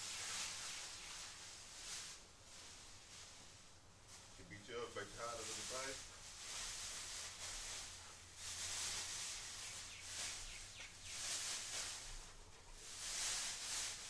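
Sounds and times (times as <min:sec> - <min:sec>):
plastic bag rustling and crinkling: 0:00.0 - 0:14.0.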